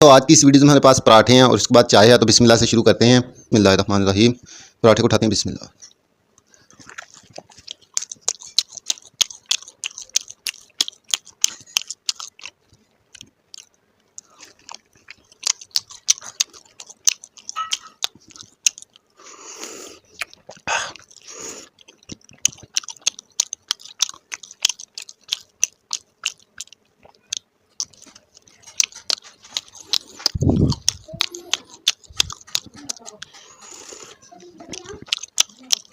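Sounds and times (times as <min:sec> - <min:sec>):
person chewing crispy food: 0:06.4 - 0:35.9.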